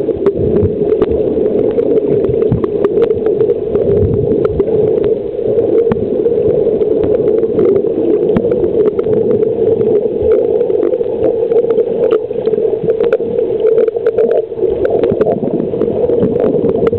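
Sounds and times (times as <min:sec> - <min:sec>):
faint underwater clicks and crackles: 0:00.0 - 0:16.9
underwater rushing hum: 0:00.0 - 0:16.9.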